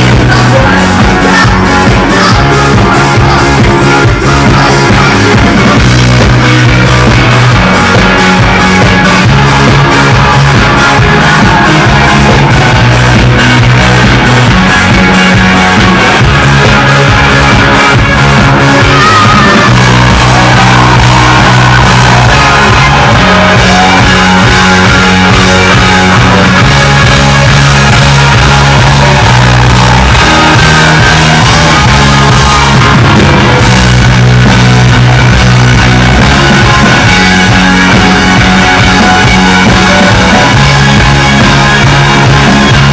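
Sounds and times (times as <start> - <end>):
regular drum beat: 0.0 - 42.9
rock band with orchestra: 0.0 - 42.9
sustained bass notes: 0.0 - 42.9.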